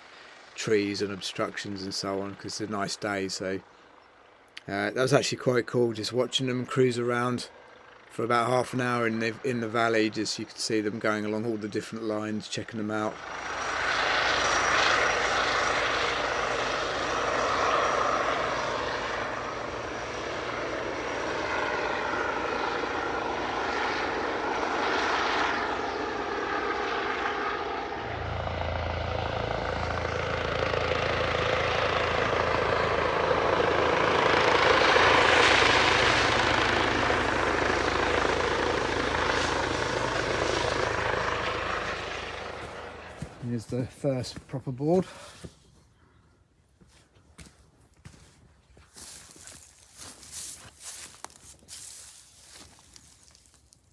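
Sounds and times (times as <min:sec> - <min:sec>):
helicopter flying past: 0:00.0 - 0:46.6.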